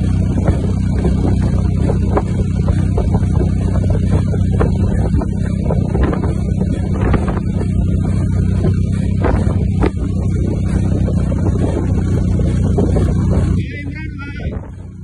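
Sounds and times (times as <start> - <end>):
vehicle engine running: 0.0 - 15.0
wind on microphone: 0.0 - 15.0.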